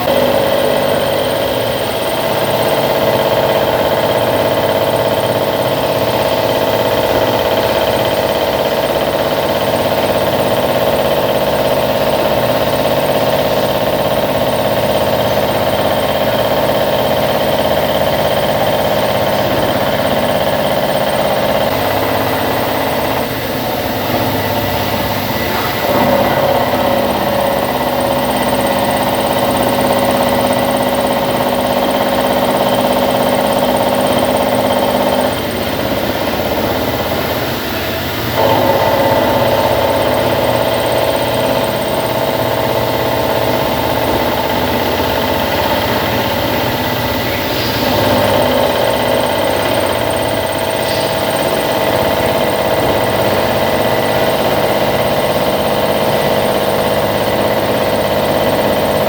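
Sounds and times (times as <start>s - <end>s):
milling machine cutting steel: 0.0s - 59.0s.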